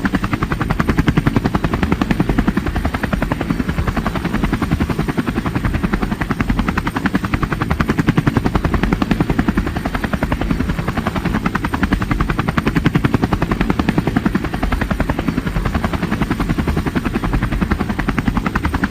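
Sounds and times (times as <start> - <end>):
helicopter rotor beating: 0.0 - 18.9
helicopter turbine noise: 0.0 - 18.9.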